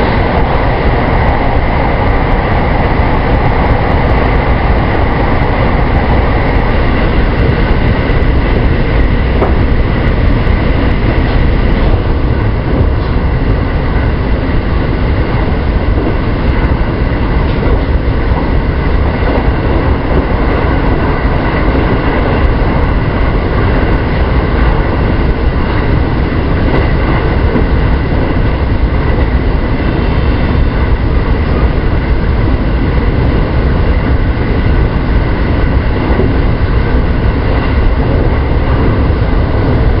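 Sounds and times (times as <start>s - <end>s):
steady high whine: 0.0s - 40.0s
train wheels rumbling on rail: 0.0s - 40.0s.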